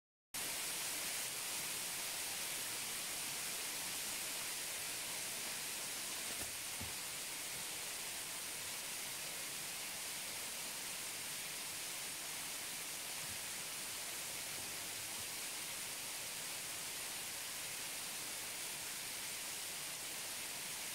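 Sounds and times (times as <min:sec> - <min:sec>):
waterfall hissing: 0:00.4 - 0:20.9.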